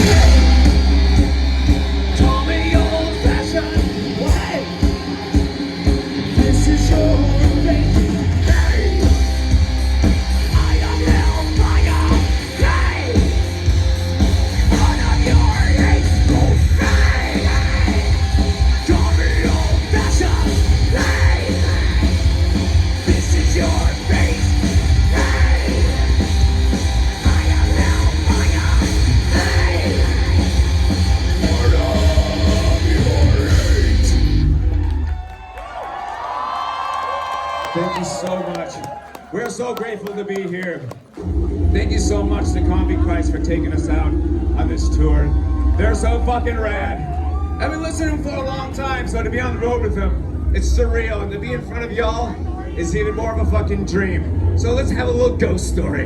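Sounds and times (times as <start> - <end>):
heavy metal band playing live: 0.0 - 35.1, 41.2 - 56.0
yelled vocals: 0.0 - 35.3, 37.7 - 56.0.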